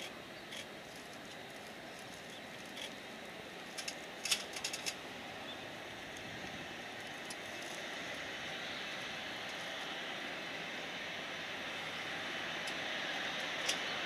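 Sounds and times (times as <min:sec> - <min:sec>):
distant jet engines hissing: 0:00.0 - 0:14.0.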